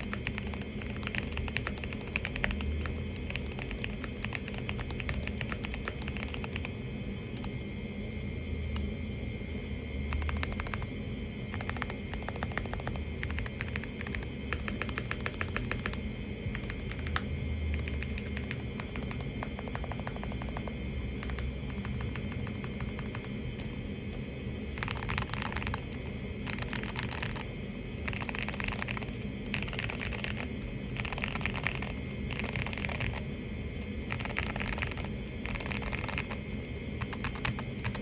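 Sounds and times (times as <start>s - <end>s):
mechanical keyboard typing: 0.0s - 6.8s, 10.1s - 10.8s, 11.5s - 23.8s, 24.8s - 33.2s, 34.1s - 36.4s, 37.0s - 38.0s.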